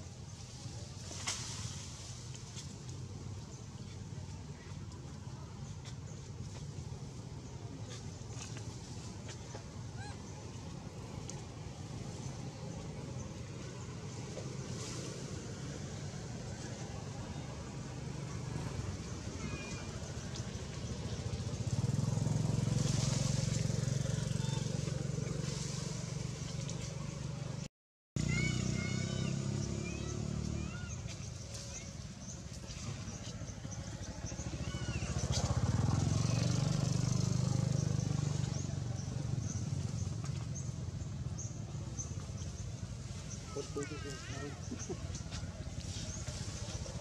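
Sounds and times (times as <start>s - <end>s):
motor engine running: 0.4s - 47.0s.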